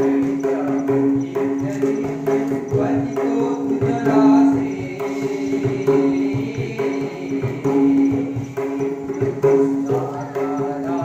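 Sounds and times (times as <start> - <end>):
faint high ringing tone: 0.0 - 11.0
hand drum beating: 0.0 - 11.0.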